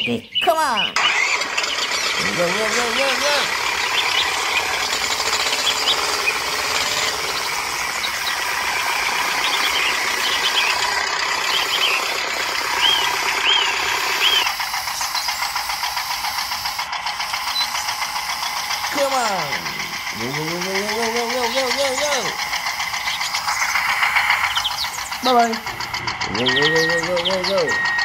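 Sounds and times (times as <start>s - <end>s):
toy electric motor whirring: 1.0s - 28.0s.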